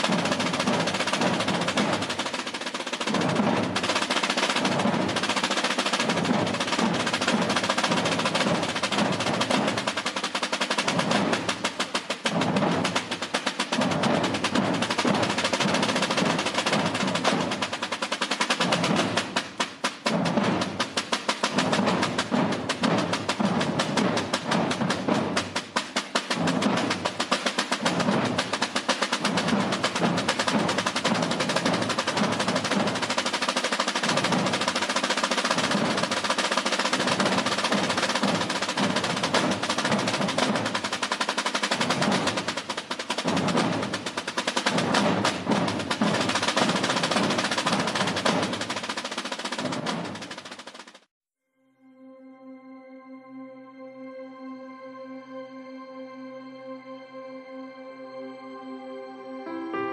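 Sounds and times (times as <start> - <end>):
drum rolls: 0.0 - 51.1.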